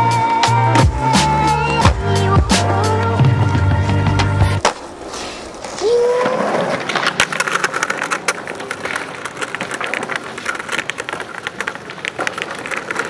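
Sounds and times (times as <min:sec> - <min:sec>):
skateboard grinding on concrete: 0:00.0 - 0:13.0.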